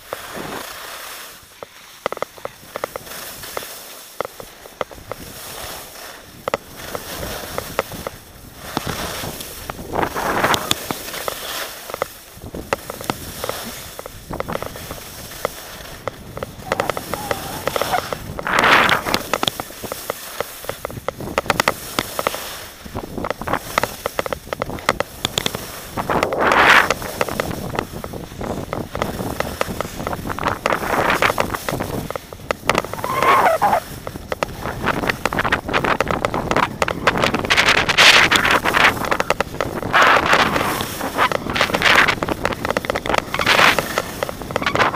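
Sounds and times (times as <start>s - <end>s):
skis scraping over snow: 0.0s - 44.9s.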